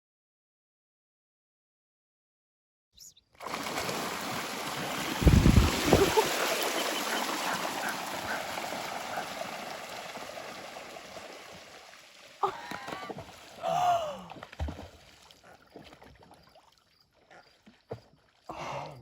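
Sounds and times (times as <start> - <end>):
splashing water: 3.3 - 19.0.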